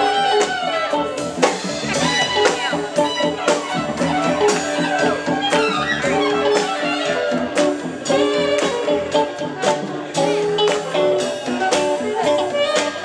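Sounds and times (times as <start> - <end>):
drum kit steady beat: 0.0 - 13.0
live band playing: 0.0 - 13.0.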